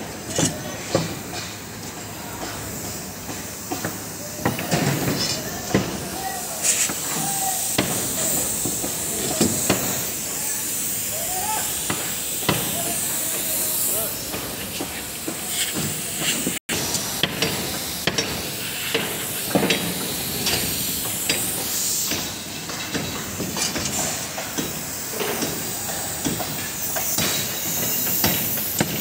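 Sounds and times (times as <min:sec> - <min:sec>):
steady hiss: 0:00.0 - 0:29.0.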